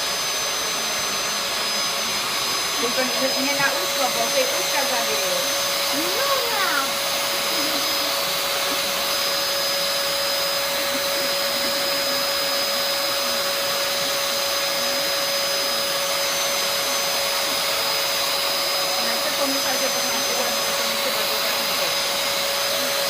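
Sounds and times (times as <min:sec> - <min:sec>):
vacuum cleaner motor running: 0:00.0 - 0:23.0.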